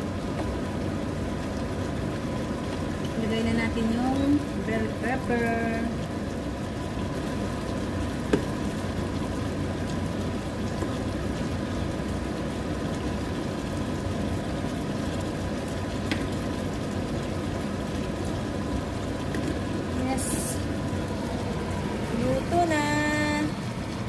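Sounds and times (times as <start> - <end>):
constant hum: 0.0 - 24.0
stew simmering in frying pan: 0.0 - 24.0.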